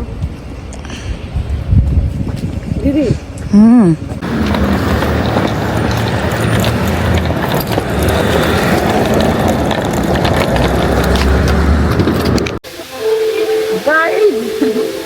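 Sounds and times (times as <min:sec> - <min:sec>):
car road and engine rumble: 0:00.0 - 0:12.6.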